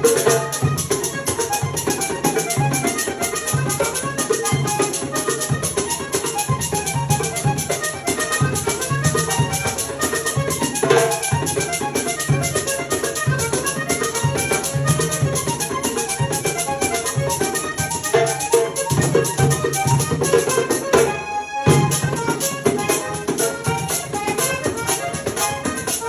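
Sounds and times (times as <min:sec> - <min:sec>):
button accordion melody: 0:00.0 - 0:26.0
hand drum: 0:00.0 - 0:26.0
percussion pattern: 0:00.0 - 0:26.0.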